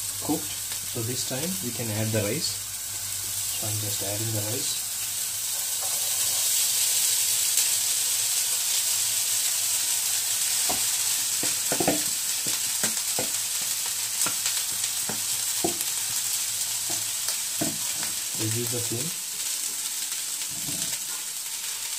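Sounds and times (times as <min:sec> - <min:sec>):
oil sizzling in a wok: 0:00.0 - 0:21.9.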